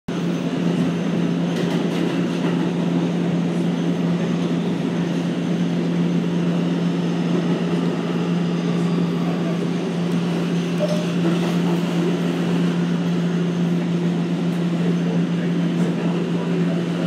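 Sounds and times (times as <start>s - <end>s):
subway train rumbling: 0.1s - 17.0s.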